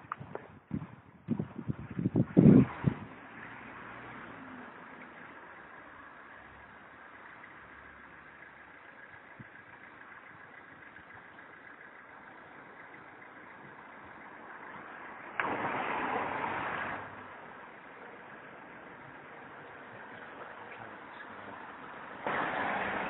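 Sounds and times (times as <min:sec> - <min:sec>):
engine running: 0:00.0 - 0:23.0
street traffic hum: 0:00.0 - 0:23.0.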